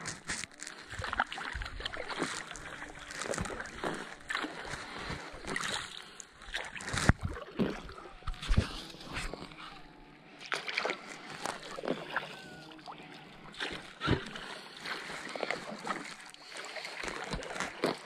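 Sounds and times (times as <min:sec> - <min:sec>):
paddle splashing in water: 0:00.0 - 0:18.0.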